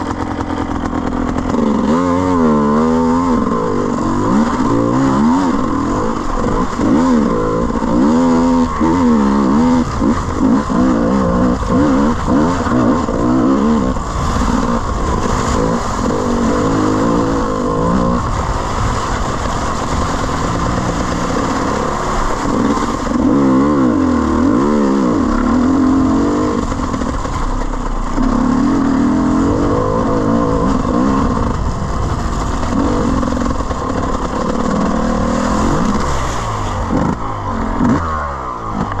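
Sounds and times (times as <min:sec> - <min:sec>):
bike splashing through mud puddle: 0:00.0 - 0:39.0
dirt bike engine revving: 0:00.0 - 0:39.0.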